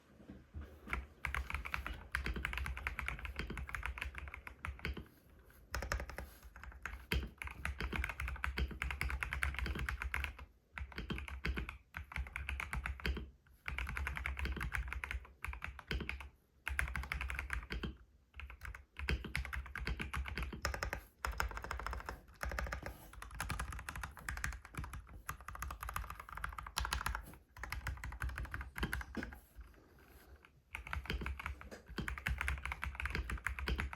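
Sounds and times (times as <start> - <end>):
mechanical keyboard typing: 0.9 - 29.5, 30.7 - 33.9.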